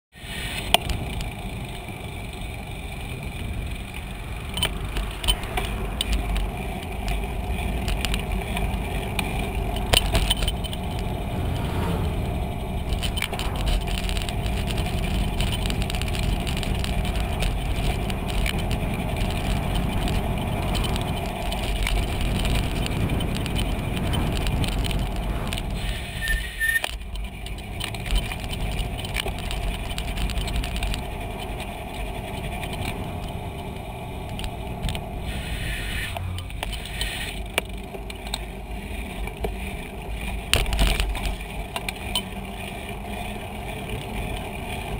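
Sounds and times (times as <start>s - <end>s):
bicycle tyres rolling on pavement: 0.1s - 44.9s
bike rattles over bumps: 0.4s - 44.9s
wind rumble on microphone: 0.5s - 37.4s.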